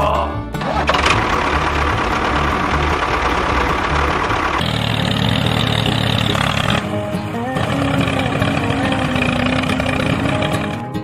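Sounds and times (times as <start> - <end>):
tractor engine running: 0.5 - 11.0.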